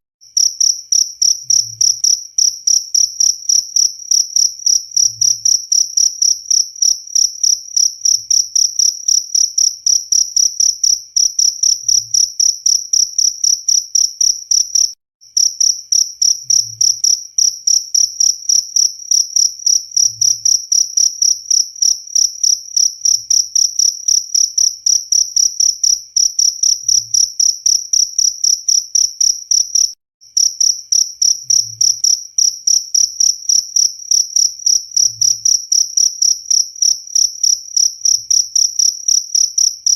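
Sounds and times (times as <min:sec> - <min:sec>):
cricket chirping: 0:00.3 - 0:39.9.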